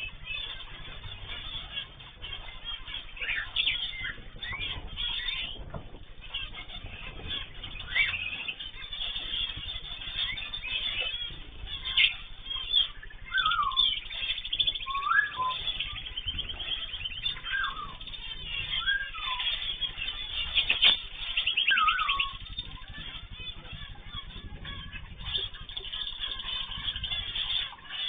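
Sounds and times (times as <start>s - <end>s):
birds chirping: 0.0s - 28.0s
fast bird trill: 0.0s - 28.0s
whistled bird calls: 0.0s - 28.0s.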